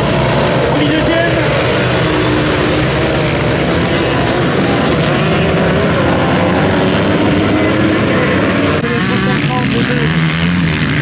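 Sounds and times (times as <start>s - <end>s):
motocross bikes racing: 0.0s - 11.0s.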